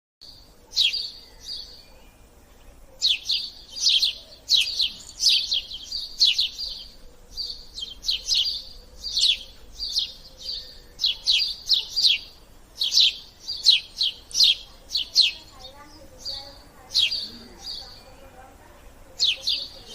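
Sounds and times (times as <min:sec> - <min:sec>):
sparrow chirping: 0:00.2 - 0:19.9.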